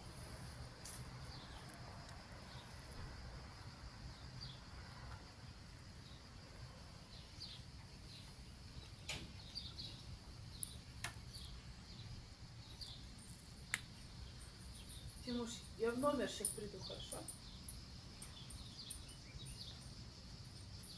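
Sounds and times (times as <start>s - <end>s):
small birds chirping: 0.2s - 20.9s.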